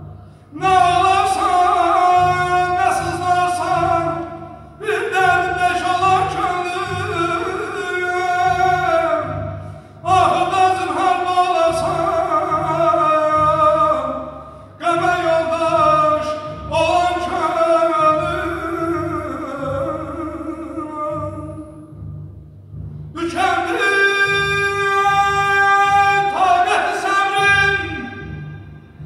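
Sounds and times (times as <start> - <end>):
orchestral accompaniment: 0.0 - 29.0
man singing: 0.5 - 21.9, 23.1 - 28.4.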